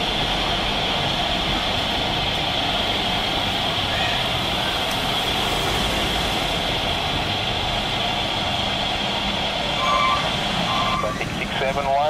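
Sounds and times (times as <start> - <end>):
jet engines at takeoff power: 0.0 - 12.0.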